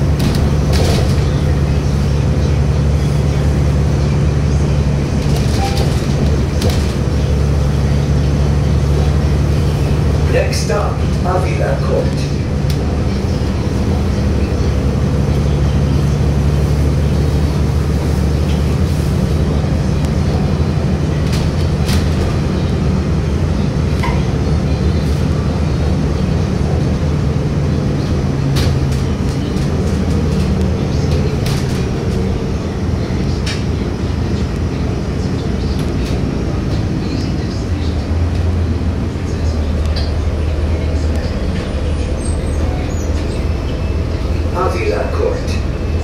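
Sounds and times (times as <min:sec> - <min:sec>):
bus engine droning: 0:00.0 - 0:46.0.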